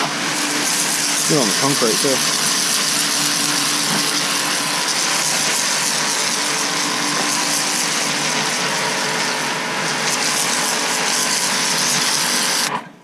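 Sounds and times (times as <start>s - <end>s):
pressure washer spray hissing: 0.0s - 12.7s
pressure washer machine hum: 0.0s - 12.8s.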